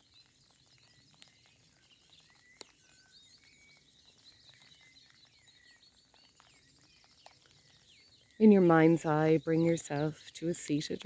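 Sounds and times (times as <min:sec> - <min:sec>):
birds chirping and whistling: 0:00.0 - 0:11.0
light rain pattering: 0:00.0 - 0:11.0.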